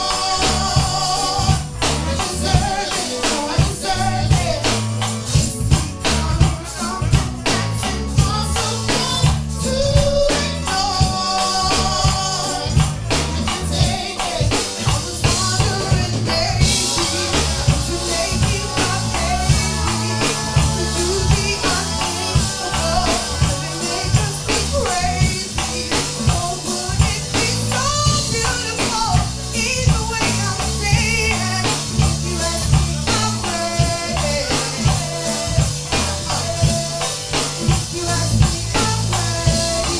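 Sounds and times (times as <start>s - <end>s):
music with drum beat: 0.0s - 39.9s
person singing: 0.0s - 39.9s.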